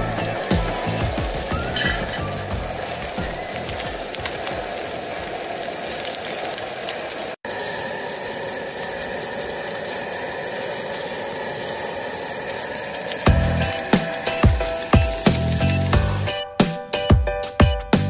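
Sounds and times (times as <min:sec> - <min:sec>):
fish sizzling in oil: 0:00.0 - 0:16.4.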